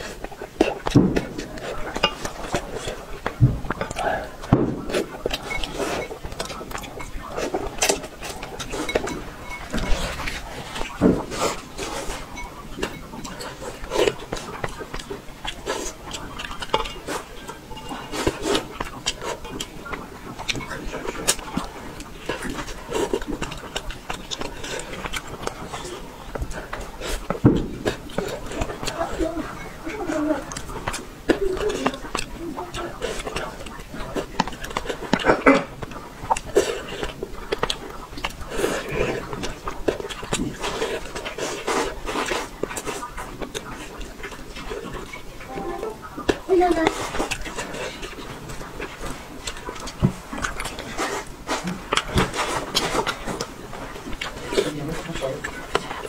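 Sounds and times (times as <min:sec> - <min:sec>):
eating sounds: 0:00.0 - 0:56.0
wet chewing and lip smacks: 0:00.0 - 0:56.0.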